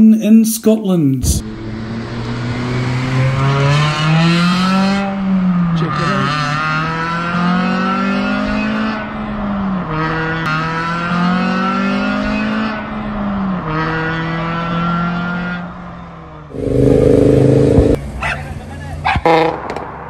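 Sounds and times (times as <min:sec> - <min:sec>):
car engines revving: 0:01.3 - 0:20.0.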